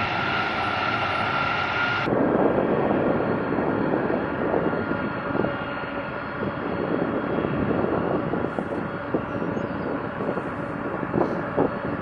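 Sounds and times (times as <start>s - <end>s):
faint engine whine: 0.0s - 12.0s
jet engines taxiing: 0.0s - 12.0s.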